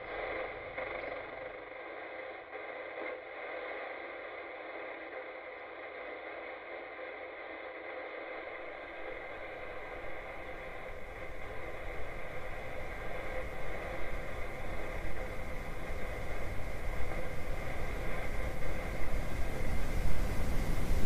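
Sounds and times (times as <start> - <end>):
static-like hiss: 0.0 - 21.0.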